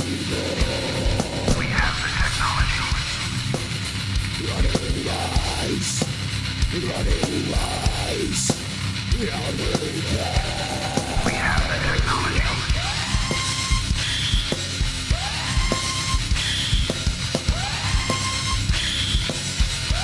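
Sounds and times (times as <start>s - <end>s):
fast dense drumming: 0.0s - 20.0s
heavy metal band playing: 0.0s - 20.0s.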